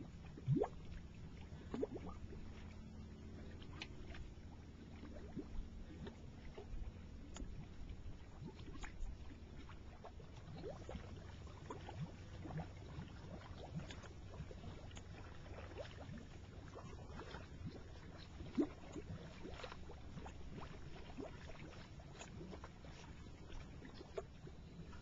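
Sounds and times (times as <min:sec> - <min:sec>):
mud pots bubbling: 0:00.0 - 0:25.0
steady low rumble: 0:00.0 - 0:25.0.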